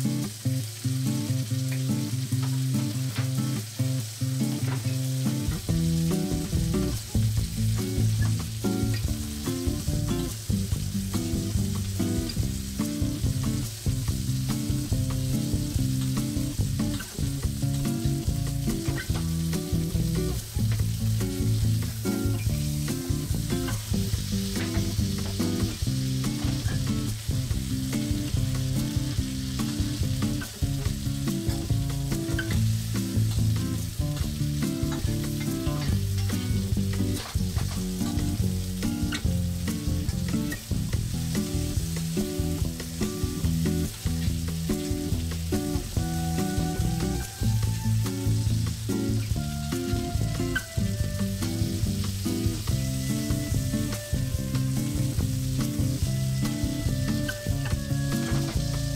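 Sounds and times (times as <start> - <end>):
butter sizzling in a frying pan: 0.0 - 58.9.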